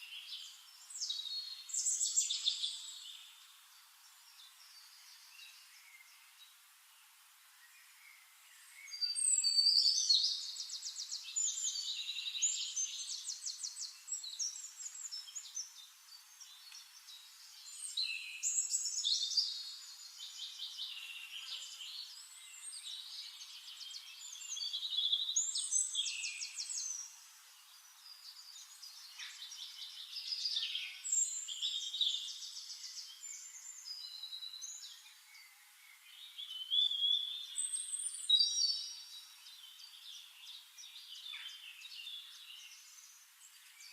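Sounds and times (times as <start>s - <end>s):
songbird trills and whistles: 0.0s - 3.3s, 7.7s - 27.2s, 28.0s - 43.9s.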